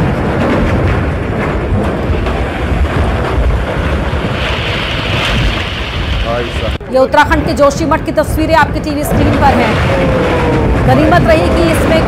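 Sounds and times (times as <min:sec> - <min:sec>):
rock and debris rumbling down: 0:00.0 - 0:06.8, 0:09.1 - 0:12.0.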